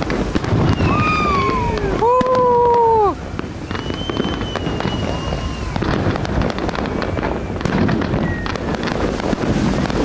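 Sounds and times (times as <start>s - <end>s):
fireworks cracking and popping: 0.0s - 10.0s.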